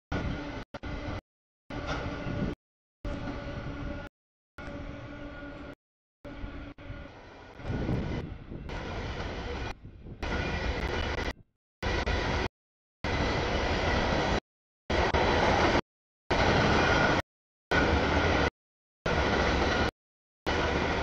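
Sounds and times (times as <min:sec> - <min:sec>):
freight train rumbling and clattering: 0:00.1 - 0:12.5, 0:13.1 - 0:18.5, 0:20.5 - 0:21.0.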